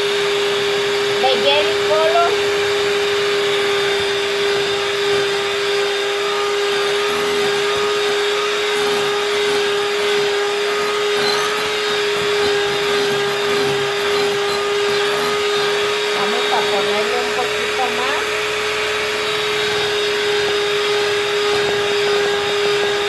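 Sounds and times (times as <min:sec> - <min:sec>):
electric hand mixer whining: 0:00.0 - 0:23.0.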